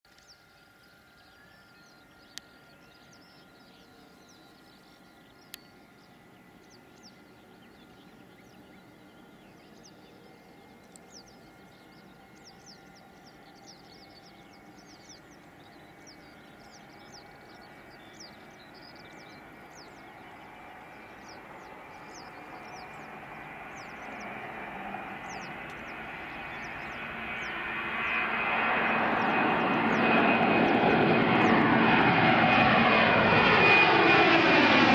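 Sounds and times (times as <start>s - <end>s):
jet engine whine: 0.1s - 34.9s.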